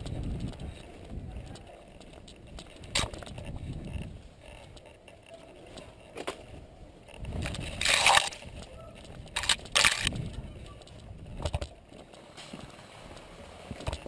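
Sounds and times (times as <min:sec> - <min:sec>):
branches scraping against camera: 0:01.6 - 0:14.0.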